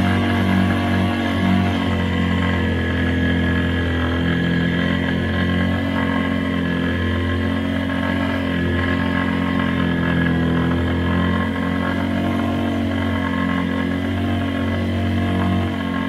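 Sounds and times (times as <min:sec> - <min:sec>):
atv engine running at low revs: 0:00.0 - 0:16.0.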